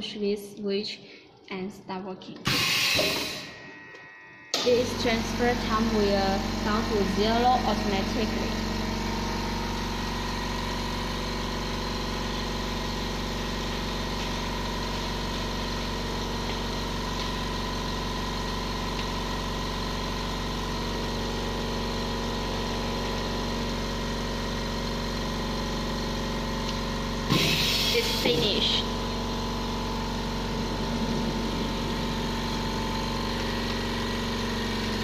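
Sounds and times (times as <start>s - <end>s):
electric air compressor droning: 2.4s - 35.0s.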